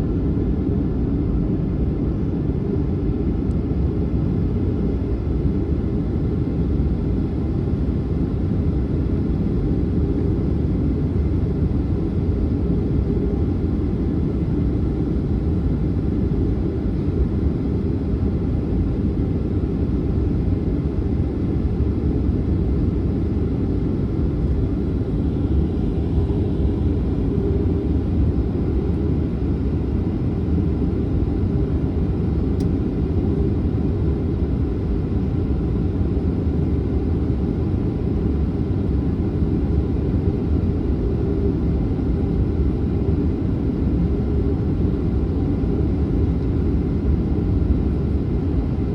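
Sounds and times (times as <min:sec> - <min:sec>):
jet engines low rumble: 0:00.0 - 0:48.9.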